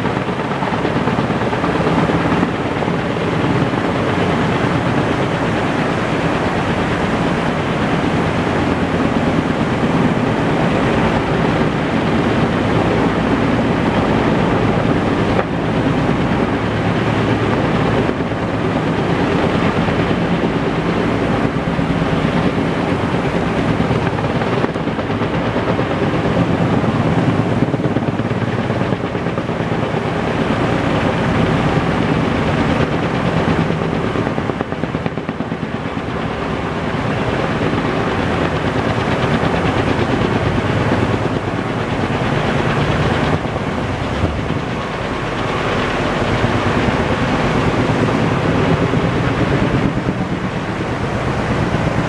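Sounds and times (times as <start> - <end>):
helicopter rotor chopping: 0.0 - 52.0.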